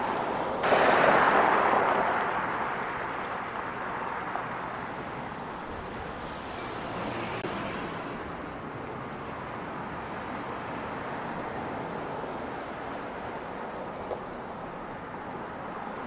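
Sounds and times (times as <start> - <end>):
passing cars hum: 0.0 - 16.0.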